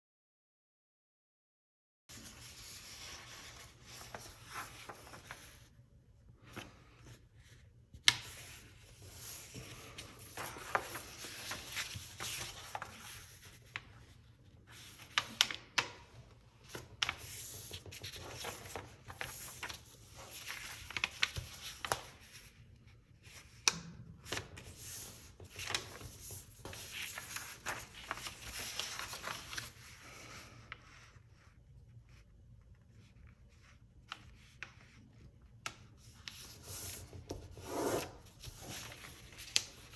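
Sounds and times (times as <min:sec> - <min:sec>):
paper rustling and sliding: 0:02.1 - 0:23.6, 0:24.2 - 0:31.5, 0:33.0 - 0:39.9.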